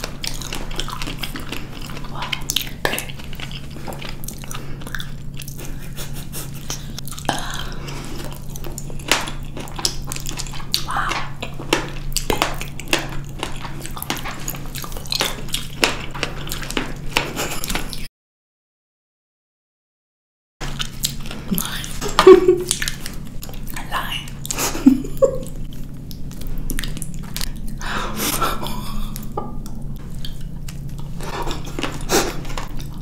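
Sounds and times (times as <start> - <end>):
faint low hum: 0.0 - 18.1, 20.6 - 33.0
wet squishing chewing: 0.0 - 18.1, 20.6 - 33.0.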